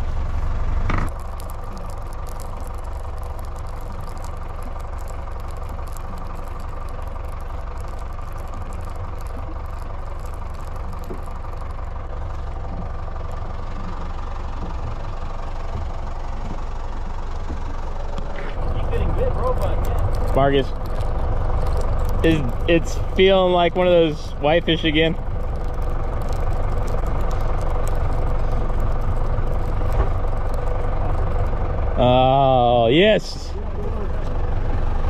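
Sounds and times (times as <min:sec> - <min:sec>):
outboard motor idling: 0:00.0 - 0:35.0.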